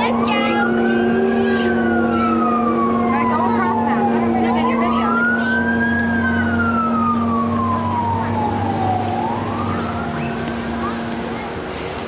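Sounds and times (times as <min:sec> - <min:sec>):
siren wailing: 0:00.0 - 0:11.2.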